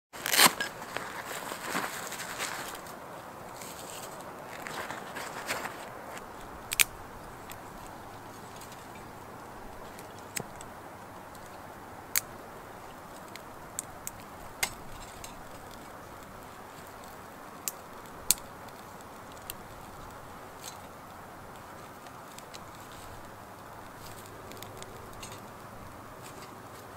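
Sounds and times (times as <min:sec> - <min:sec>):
soft fire hiss: 0:00.2 - 0:26.9
twigs burning with crackling pops: 0:00.2 - 0:26.9.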